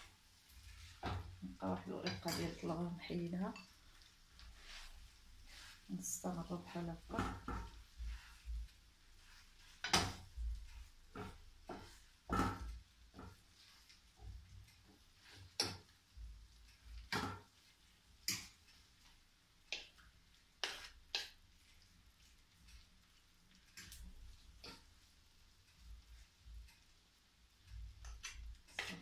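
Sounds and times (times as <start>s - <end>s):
wooden spatula scraping a pan: 0.0s - 29.0s.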